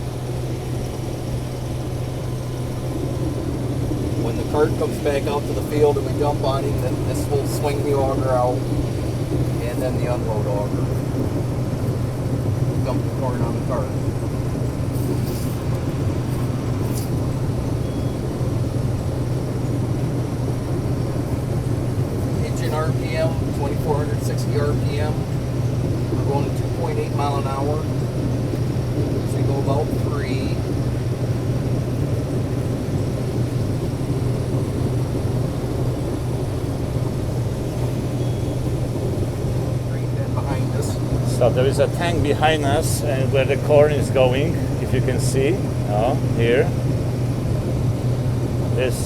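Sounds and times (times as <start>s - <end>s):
combine machinery drone: 0.0s - 49.0s.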